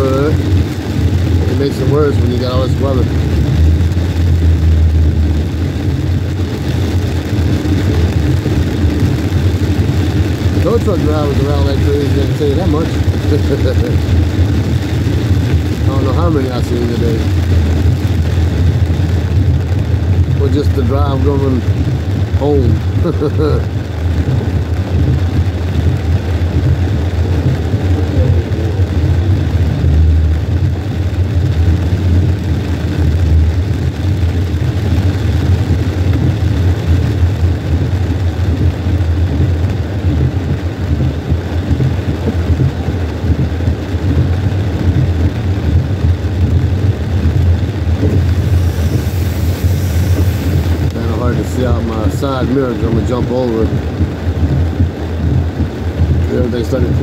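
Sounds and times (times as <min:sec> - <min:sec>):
car engine rumble: 0:00.0 - 0:57.0
tyres on wet road: 0:00.0 - 0:57.0.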